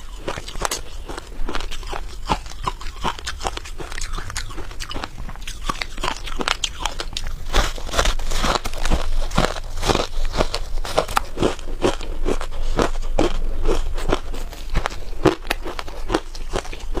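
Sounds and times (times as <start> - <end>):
crunching frost being chewed: 0.0 - 17.0.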